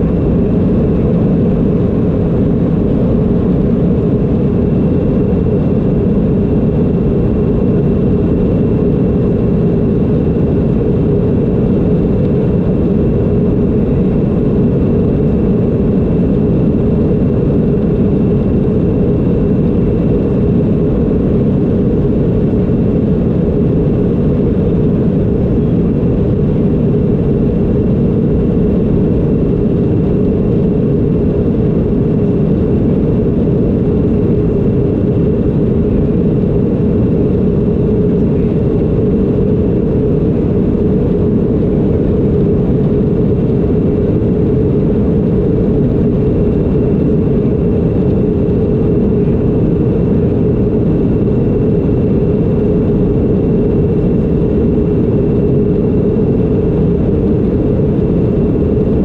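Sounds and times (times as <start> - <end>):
faint high whine: 0.0 - 59.0
jet engine drone in cabin: 0.0 - 59.0.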